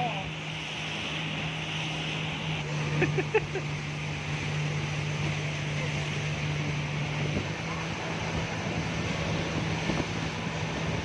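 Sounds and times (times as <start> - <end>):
motorboat engine humming: 0.0 - 11.0
wind and water hiss: 0.0 - 11.0.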